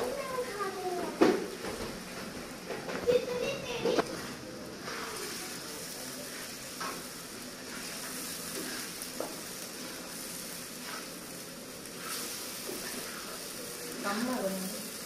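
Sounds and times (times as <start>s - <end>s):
gravy sizzling in a pan: 0.0s - 15.0s.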